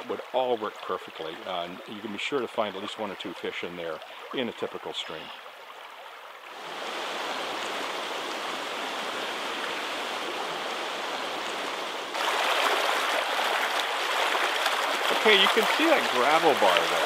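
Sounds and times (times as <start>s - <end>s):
creek water rushing and splashing: 0.0s - 17.0s.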